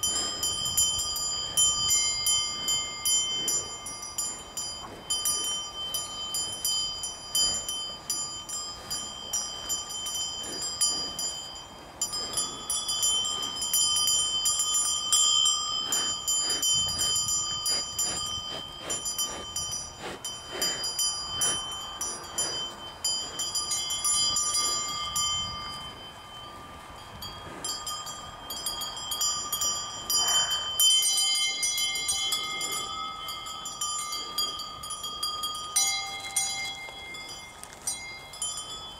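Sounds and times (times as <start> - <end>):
cowbells ringing and clanking: 0.0 - 38.9.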